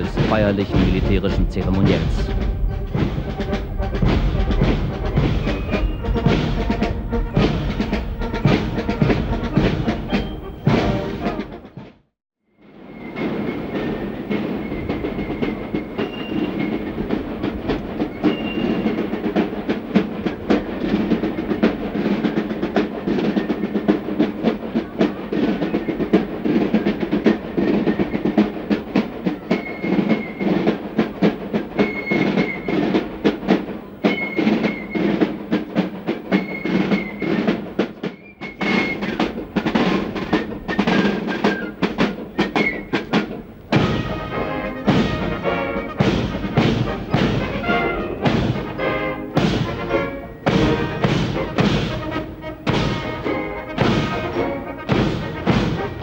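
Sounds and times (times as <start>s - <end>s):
drum and fife corps march: 0.0s - 56.0s.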